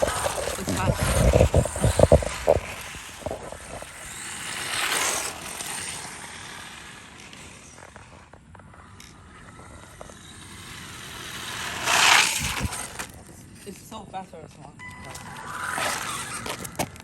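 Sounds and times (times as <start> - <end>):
rc car driving over ground: 0.0 - 17.0.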